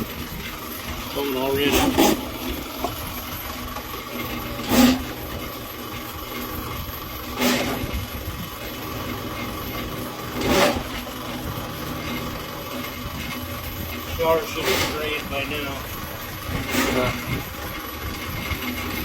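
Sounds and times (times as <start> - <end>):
drain-cleaning machine running: 0.0 - 19.0.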